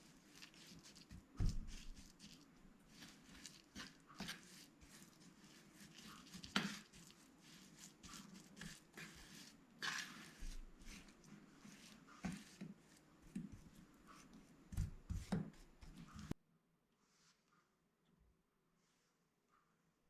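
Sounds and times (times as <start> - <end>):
light scraping and rustling: 0.0 - 16.4.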